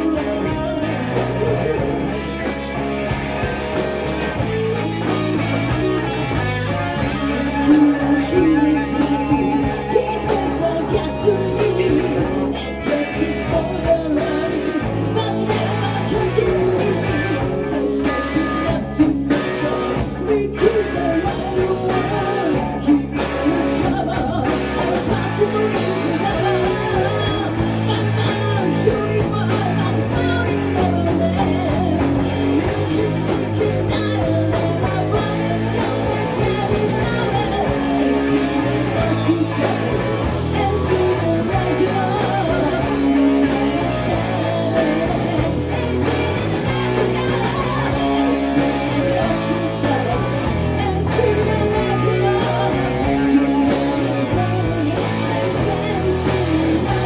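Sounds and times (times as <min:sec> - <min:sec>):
drum kit: 0:00.0 - 0:57.0
electric guitar: 0:00.0 - 0:57.0
person singing: 0:00.0 - 0:57.0
rock band playing: 0:00.0 - 0:57.0.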